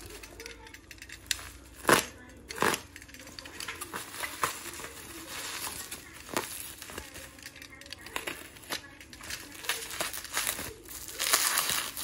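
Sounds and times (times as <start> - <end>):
bubble wrap crinkling and crackling: 0.0 - 12.0.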